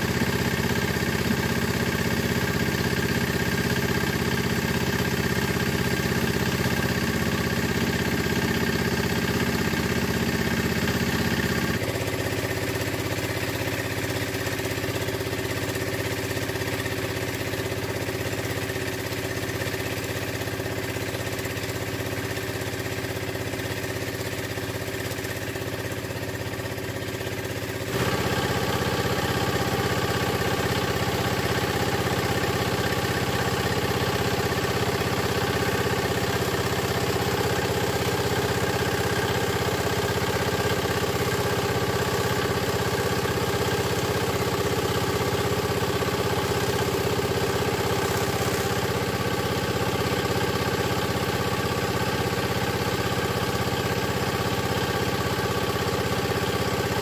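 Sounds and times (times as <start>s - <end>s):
small diesel engine running: 0.0s - 57.0s.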